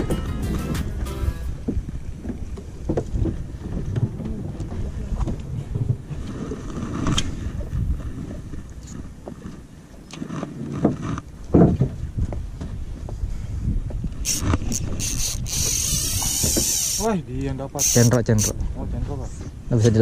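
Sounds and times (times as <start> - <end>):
wind buffeting microphone: 0.0 - 9.6, 10.9 - 20.0.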